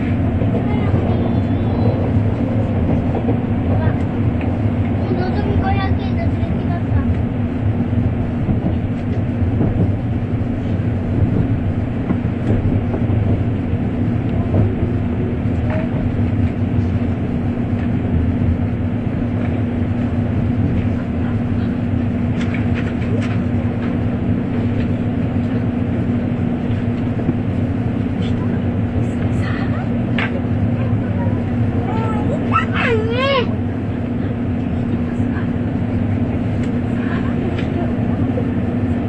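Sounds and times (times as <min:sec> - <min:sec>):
train interior rumble and hum: 0:00.0 - 0:39.0.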